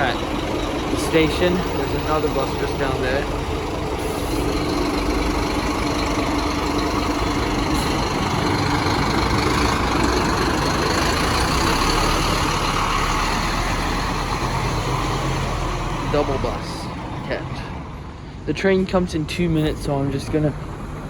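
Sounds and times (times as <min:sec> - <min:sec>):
bus engine idling: 0:00.0 - 0:21.0
road traffic noise: 0:00.0 - 0:21.0.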